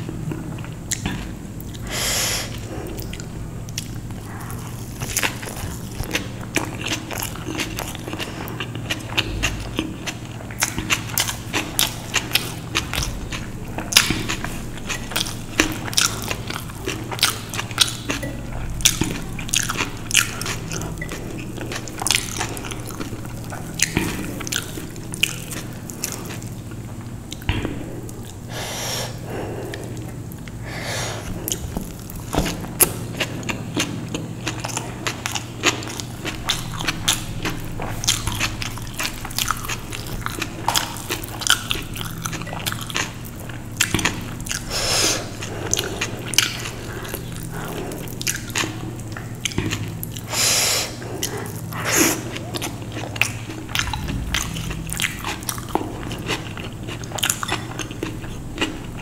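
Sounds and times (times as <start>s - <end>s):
person chewing crunchy food: 0.0s - 59.0s
steady low hum: 0.0s - 59.0s.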